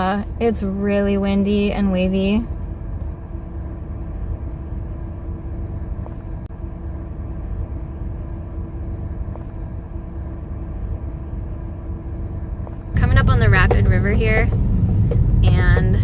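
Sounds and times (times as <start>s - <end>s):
faint steady hum: 0.0s - 16.0s
vehicle driving rumble: 0.0s - 16.0s.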